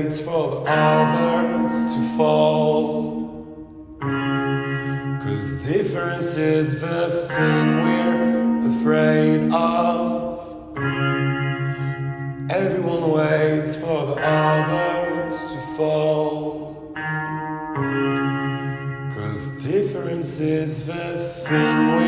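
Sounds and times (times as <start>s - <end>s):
wordless vocals: 0.0s - 17.0s, 18.2s - 22.0s.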